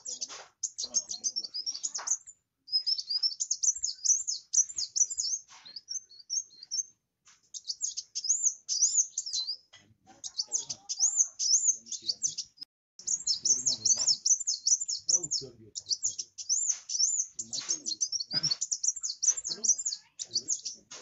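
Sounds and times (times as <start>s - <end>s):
sunbird twittering song: 0.0s - 21.0s.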